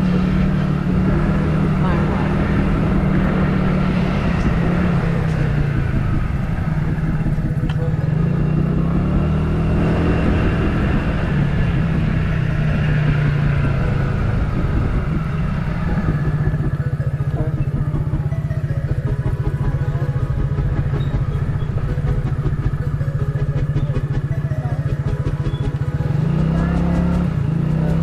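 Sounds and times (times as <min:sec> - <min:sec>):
vehicle engine humming while driving: 0:00.0 - 0:28.0.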